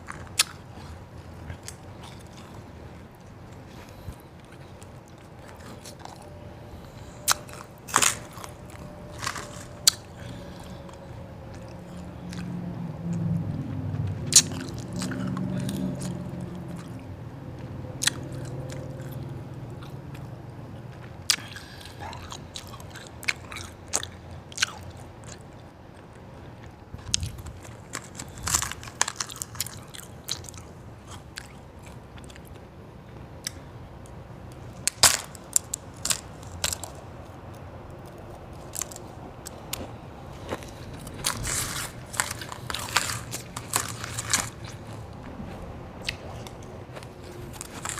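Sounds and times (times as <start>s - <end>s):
chewing ice crunching: 0.0s - 47.9s.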